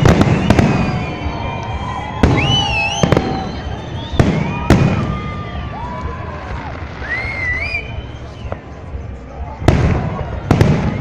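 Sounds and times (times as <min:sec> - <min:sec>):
fireworks bangs: 0:00.0 - 0:08.8, 0:09.5 - 0:11.0.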